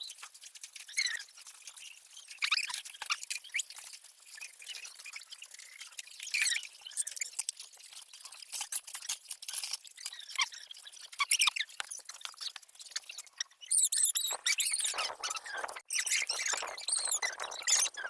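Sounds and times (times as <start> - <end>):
high-pitched chirps and squeaks: 0.8 - 18.0.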